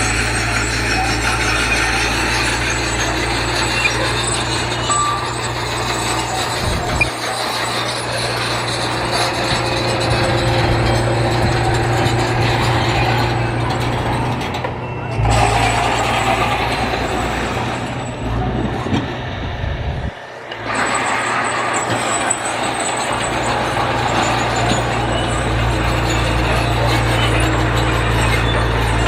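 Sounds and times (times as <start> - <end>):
heavy machine engine running: 0.0 - 29.0.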